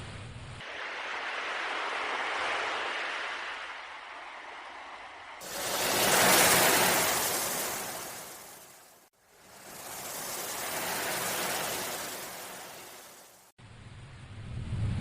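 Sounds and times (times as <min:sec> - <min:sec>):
ocean waves washing in: 0:00.6 - 0:13.6.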